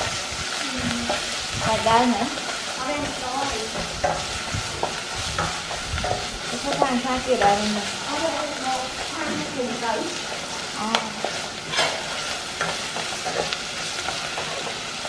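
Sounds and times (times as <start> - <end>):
paste sizzling in oil: 0.0 - 15.0
wooden spatula scraping a pot: 0.0 - 15.0.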